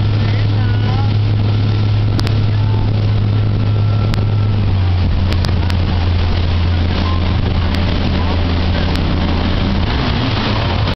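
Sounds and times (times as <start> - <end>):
motorboat engine droning: 0.0 - 10.9
rush of wake and wind: 0.0 - 10.9.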